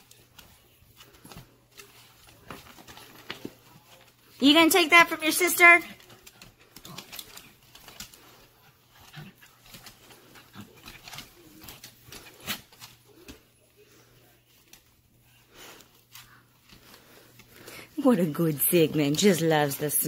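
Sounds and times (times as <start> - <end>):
dogs scuffling: 0.0 - 20.0.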